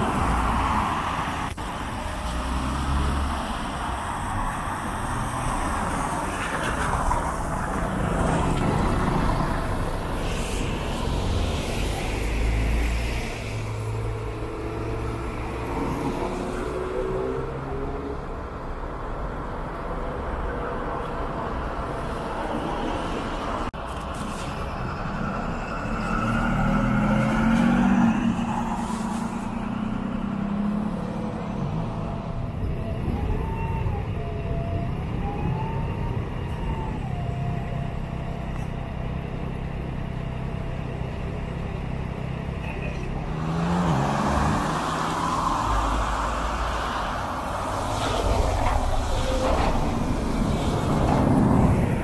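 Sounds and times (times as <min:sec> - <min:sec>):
bus engine hum: 0:00.0 - 0:52.0
road noise rush: 0:00.0 - 0:52.0.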